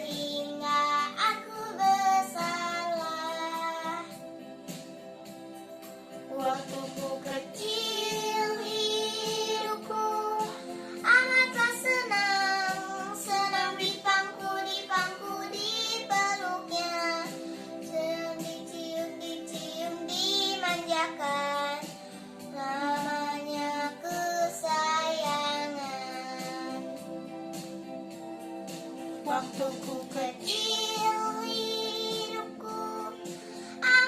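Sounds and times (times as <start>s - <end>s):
child singing: 0.0s - 4.2s, 6.3s - 21.9s, 22.5s - 26.9s, 29.3s - 34.0s
backing music: 0.0s - 34.0s.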